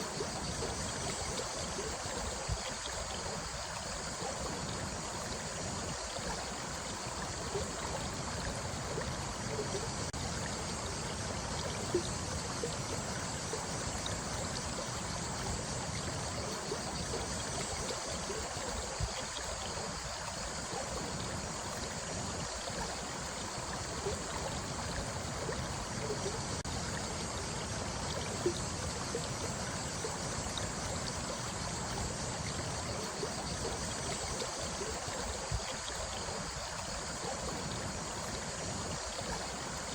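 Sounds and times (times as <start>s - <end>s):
running water gurgling: 0.0s - 39.9s
water splashes: 0.0s - 39.9s.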